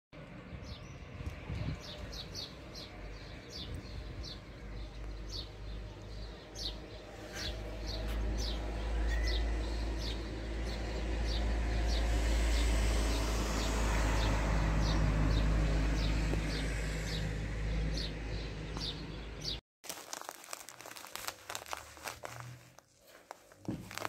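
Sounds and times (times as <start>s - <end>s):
small birds chirping: 0.4s - 12.7s, 13.6s - 24.0s.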